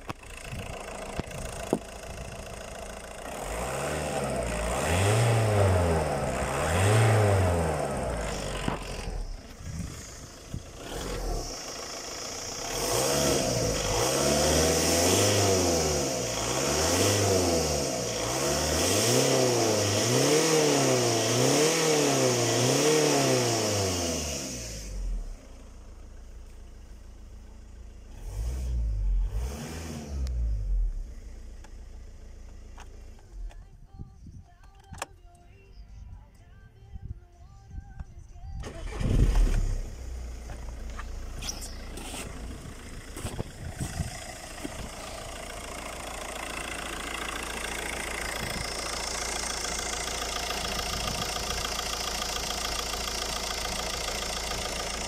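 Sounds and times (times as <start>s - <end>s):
diesel car engine revving: 0.0s - 33.6s, 38.6s - 55.0s.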